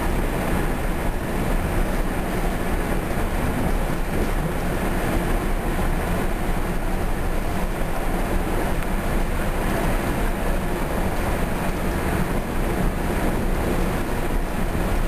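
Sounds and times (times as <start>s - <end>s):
rail coach wheels rumbling: 0.0s - 15.0s.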